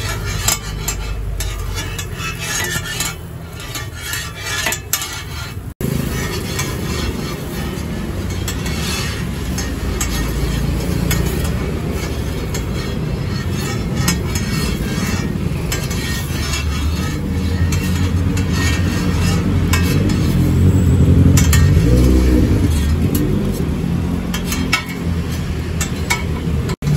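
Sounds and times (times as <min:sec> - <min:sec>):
street traffic rumble: 0:00.0 - 0:26.9
vehicle engine: 0:00.0 - 0:26.9.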